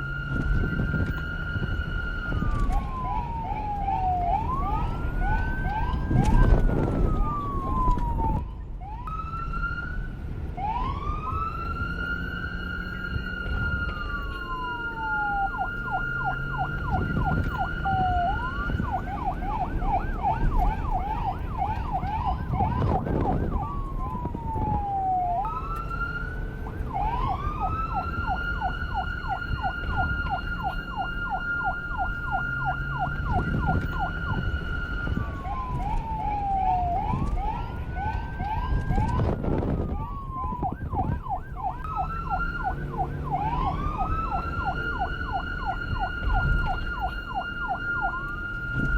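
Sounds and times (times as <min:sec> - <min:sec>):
police siren wail and yelp: 0:00.0 - 0:48.9.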